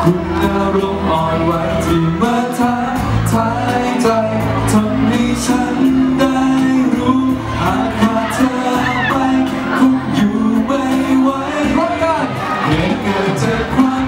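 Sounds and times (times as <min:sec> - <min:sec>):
instrumental accompaniment over speakers: 0:00.0 - 0:14.0
man singing pop ballad: 0:00.0 - 0:14.0.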